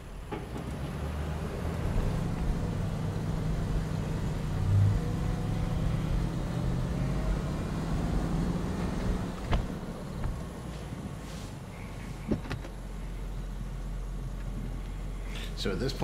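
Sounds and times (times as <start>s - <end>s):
suv engine rumbling under load: 0.0s - 16.0s.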